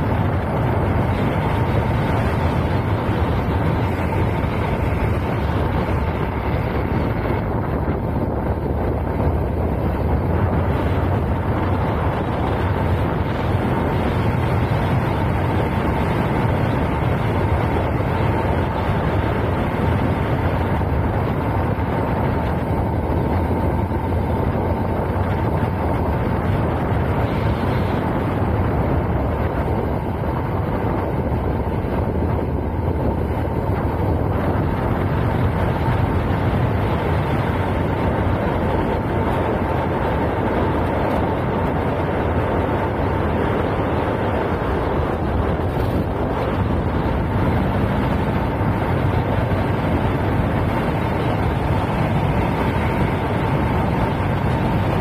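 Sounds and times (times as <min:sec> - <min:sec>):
motorcycle engine running: 0:00.0 - 0:55.0
wind rushing on microphone: 0:00.0 - 0:55.0.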